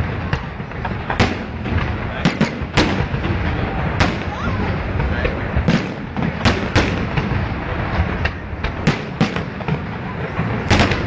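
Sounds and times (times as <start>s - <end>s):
fireworks bursting: 0.0s - 11.0s
steady rumble: 0.0s - 11.0s.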